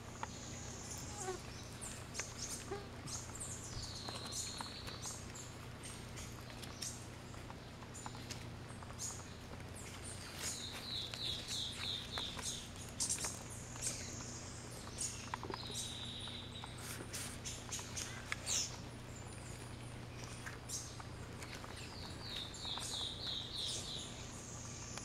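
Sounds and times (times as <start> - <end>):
faint steady low hum: 0.0 - 25.0
wild birds calling: 0.0 - 25.0.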